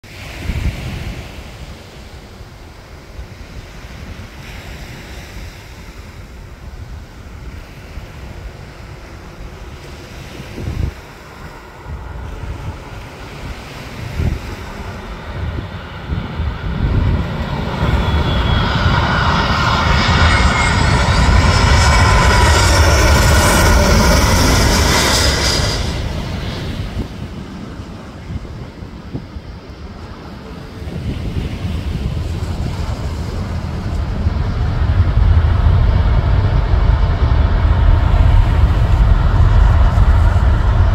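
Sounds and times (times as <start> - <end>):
wind buffeting microphone: 0.0 - 40.9
jet aircraft passing overhead: 0.1 - 40.9.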